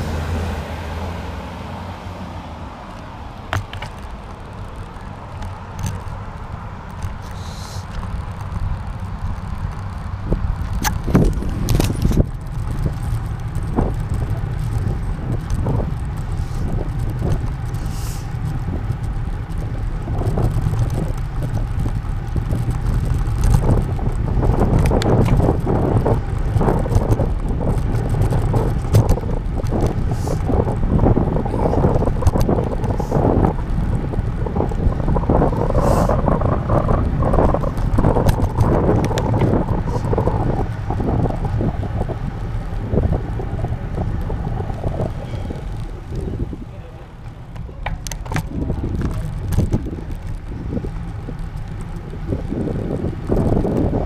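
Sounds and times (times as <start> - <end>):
wind rumble on microphone: 0.0 - 54.0
bicycle rattles and knocks: 2.8 - 54.0.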